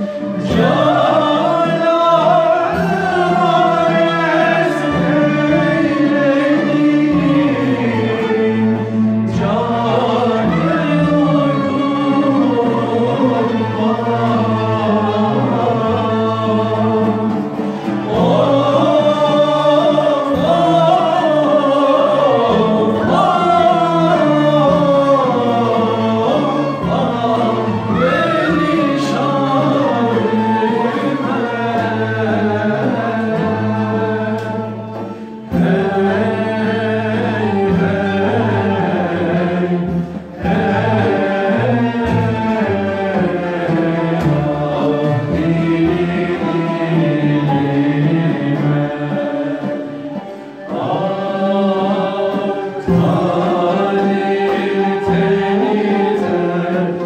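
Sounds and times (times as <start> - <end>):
cello: 0.0 - 57.0
choir singing in unison: 0.0 - 57.0
darbuka: 0.0 - 57.0
frame drum: 0.0 - 57.0
ney flute: 0.0 - 57.0.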